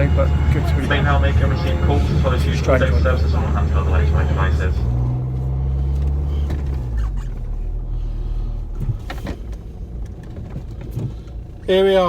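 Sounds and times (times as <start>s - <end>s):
car engine hum from inside: 0.0s - 12.0s.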